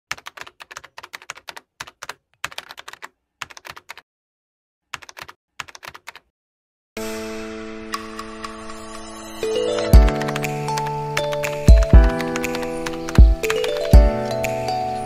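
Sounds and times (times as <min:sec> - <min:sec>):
keyboard typing: 0:00.1 - 0:04.0, 0:04.9 - 0:06.3, 0:08.0 - 0:14.8.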